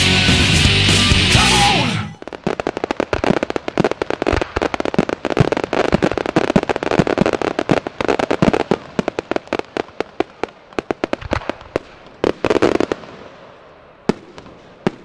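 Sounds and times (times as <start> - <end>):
fireworks cracking and popping: 1.4 - 15.0.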